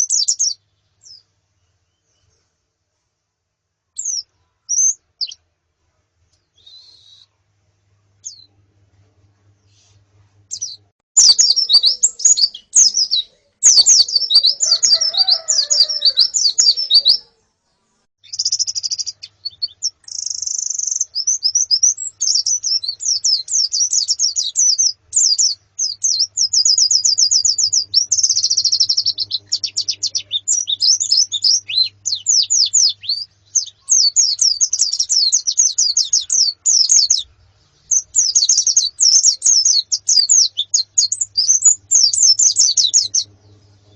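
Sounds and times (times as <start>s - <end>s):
birds twittering with high chirps: 0.0s - 2.5s, 4.0s - 5.5s, 8.2s - 8.6s, 9.6s - 17.4s, 18.2s - 43.9s.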